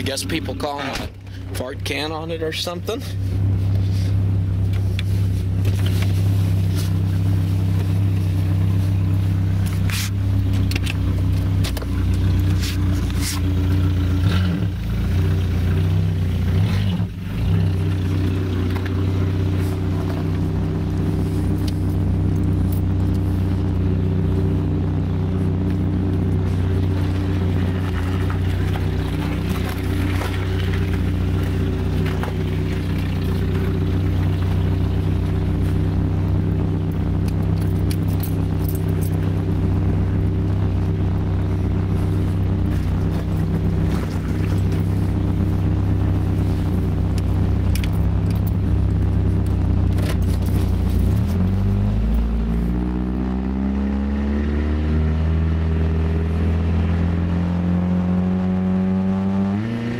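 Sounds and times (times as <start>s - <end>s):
car engine low exhaust drone: 0.0s - 59.9s.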